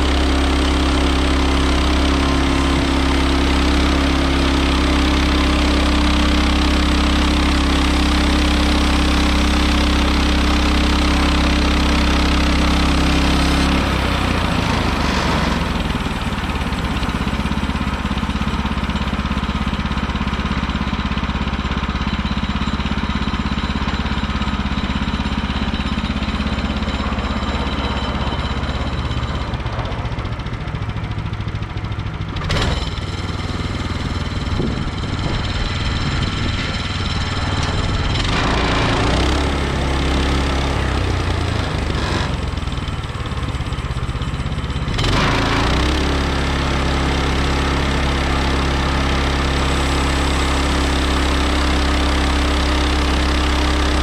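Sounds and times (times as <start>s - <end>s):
petrol engine running: 0.0s - 54.0s.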